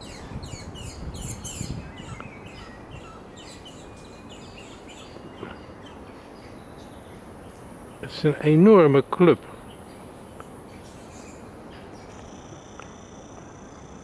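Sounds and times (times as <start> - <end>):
high falling chirps twittering: 0.0 - 14.0.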